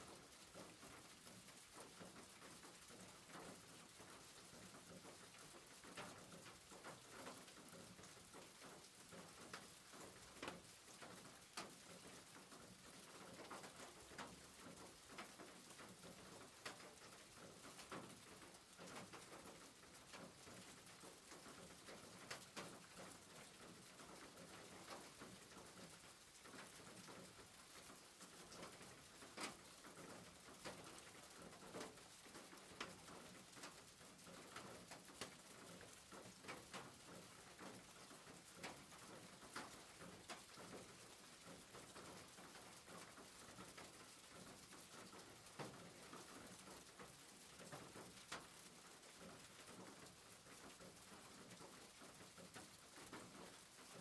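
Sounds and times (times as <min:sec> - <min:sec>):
faint steady rain: 0:00.0 - 0:54.0.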